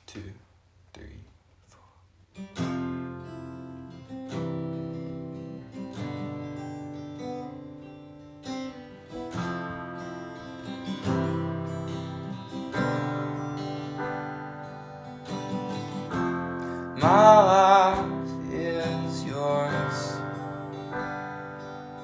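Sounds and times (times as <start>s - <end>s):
strummed acoustic guitar: 2.3s - 22.0s.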